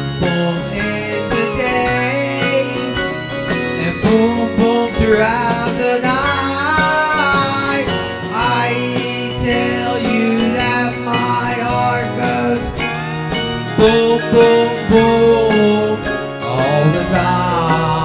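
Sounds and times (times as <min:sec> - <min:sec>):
acoustic guitar: 0:00.0 - 0:18.0
country instrumental music: 0:00.0 - 0:18.0
pitch-bending melody line: 0:00.0 - 0:18.0.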